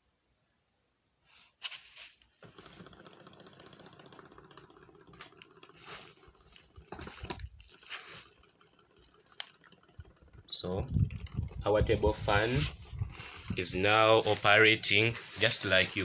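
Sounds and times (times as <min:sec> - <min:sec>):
handling rustling and knocking: 0:01.6 - 0:16.0
small motor fan whirring: 0:02.3 - 0:16.0.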